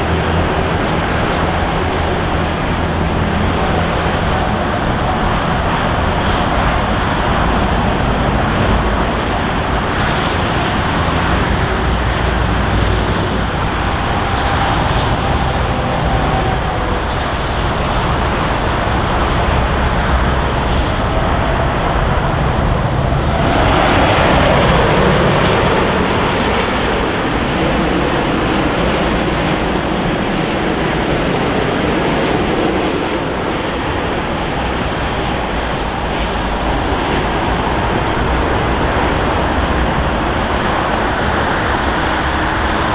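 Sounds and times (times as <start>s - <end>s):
jet engine rumble: 0.0s - 42.9s.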